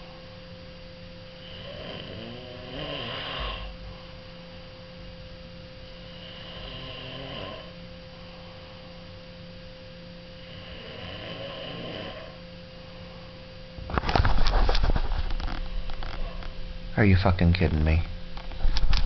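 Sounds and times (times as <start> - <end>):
snoring with buzzing rattle: 0.0 - 19.0
steady hum: 0.0 - 19.0.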